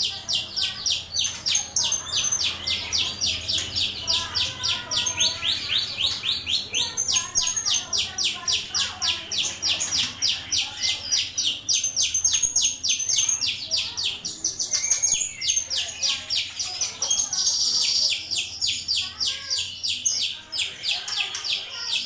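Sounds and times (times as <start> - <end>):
starling chattering: 0.0 - 22.0.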